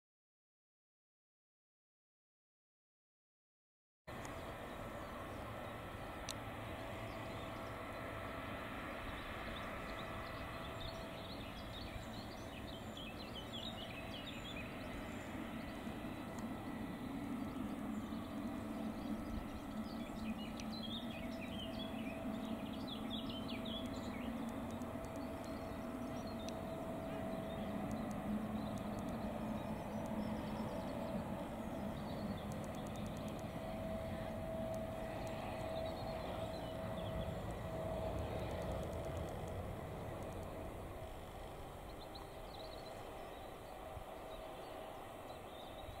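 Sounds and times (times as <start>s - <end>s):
jet engines humming and whining: 4.1s - 46.0s
birds chirping: 4.2s - 46.0s.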